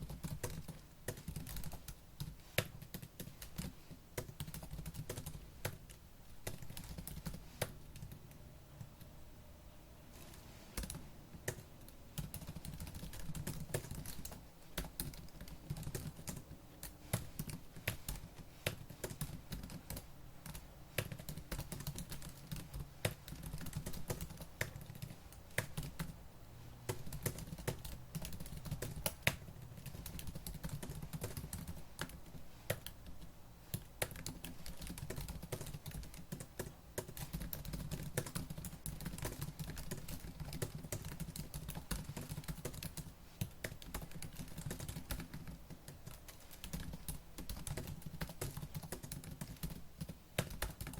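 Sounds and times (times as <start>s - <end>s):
fast typing on laptop keyboard: 0.0s - 9.1s, 10.8s - 26.2s, 26.8s - 50.9s.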